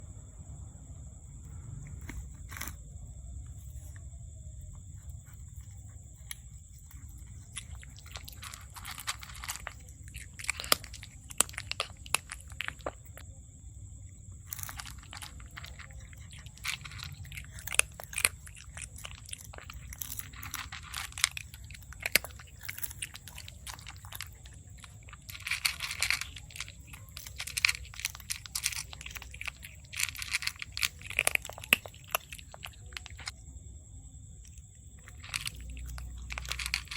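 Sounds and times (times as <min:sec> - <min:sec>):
cat crunching food: 0:01.4 - 0:04.0, 0:04.8 - 0:33.4, 0:34.4 - 0:36.9.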